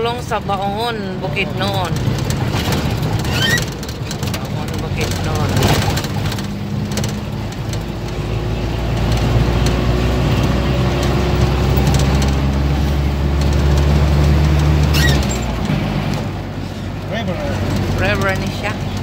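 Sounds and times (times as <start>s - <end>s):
road noise: 0.0s - 19.0s
vehicle engine cruising: 0.0s - 19.0s.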